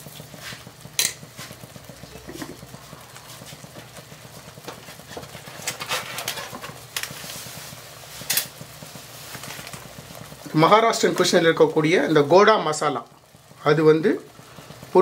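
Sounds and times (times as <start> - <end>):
thick lentils bubbling in pot: 0.0 - 15.0.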